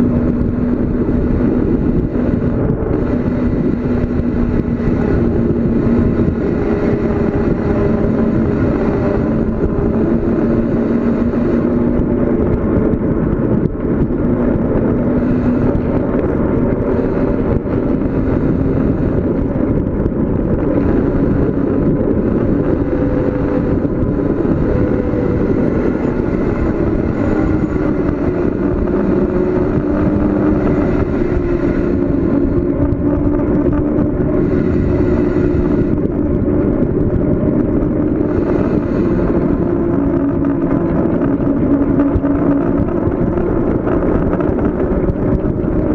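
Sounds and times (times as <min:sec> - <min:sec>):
low hum: 0:00.0 - 0:45.9
wind and road noise: 0:00.0 - 0:45.9.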